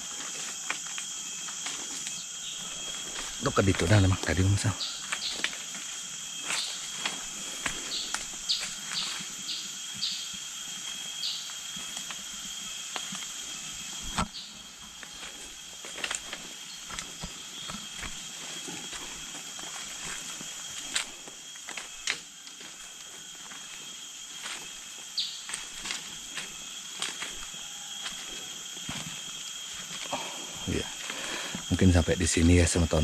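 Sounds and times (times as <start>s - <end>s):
footsteps crunching through dry leaves: 0.0s - 9.9s, 10.5s - 30.1s
insects droning: 0.0s - 33.0s.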